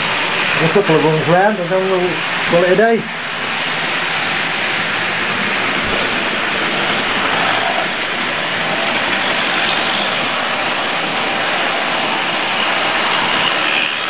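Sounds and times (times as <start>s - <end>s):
model train wheels rumbling on track: 0.0s - 14.0s.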